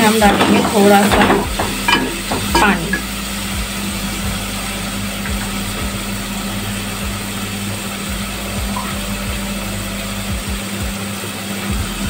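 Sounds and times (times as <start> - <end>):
low stove hum: 0.0 - 12.0
spices frying in oil: 0.0 - 12.0.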